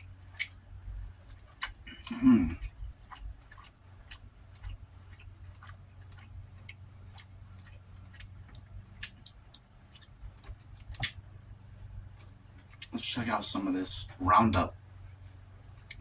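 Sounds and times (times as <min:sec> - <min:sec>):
person eating close to microphone: 0:00.0 - 0:00.6, 0:01.2 - 0:13.7
faint low hum: 0:00.0 - 0:16.0.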